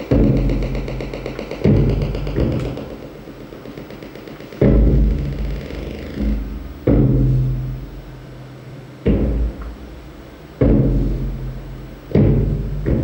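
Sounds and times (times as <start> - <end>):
deep electronic percussive hits: 0.0 - 8.0, 9.0 - 13.0.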